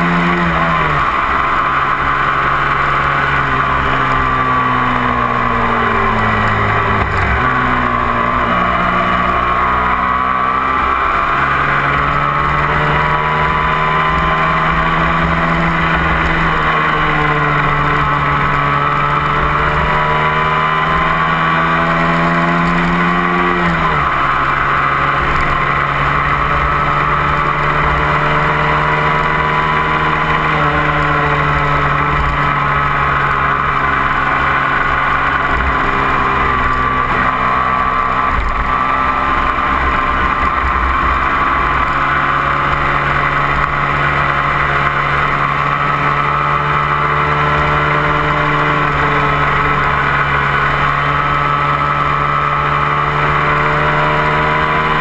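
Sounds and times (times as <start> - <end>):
motorcycle engine pulling: 0.0 - 55.0.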